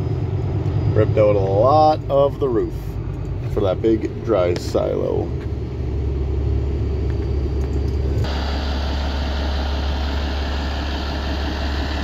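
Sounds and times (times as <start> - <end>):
truck diesel engine idling: 0.0 - 12.0.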